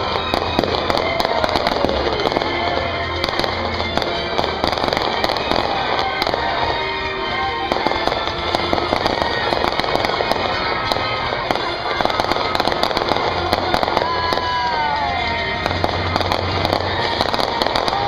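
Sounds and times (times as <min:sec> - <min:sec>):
fireworks crackling and popping: 0:00.0 - 0:18.0
music playing: 0:00.0 - 0:18.0.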